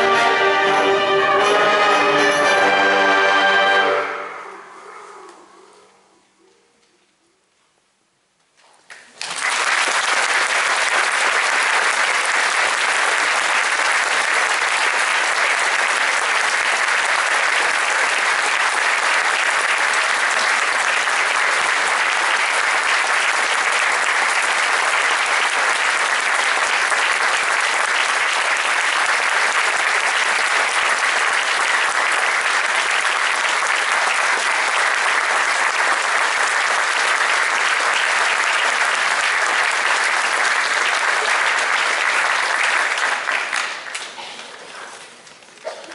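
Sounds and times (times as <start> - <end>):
audience applause: 8.9 - 45.9.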